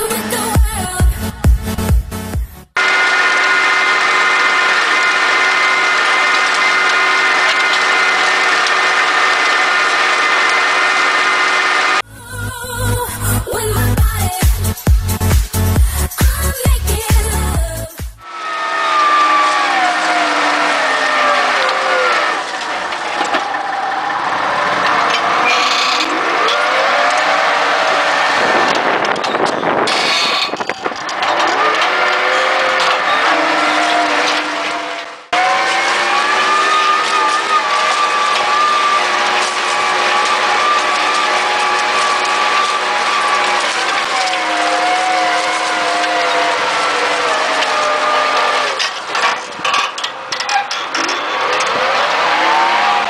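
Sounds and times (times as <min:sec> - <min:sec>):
constant mechanical whine: 0:00.0 - 0:53.0
tractor engine running under load: 0:00.0 - 0:53.0
harrow discs cutting soil: 0:02.8 - 0:53.0.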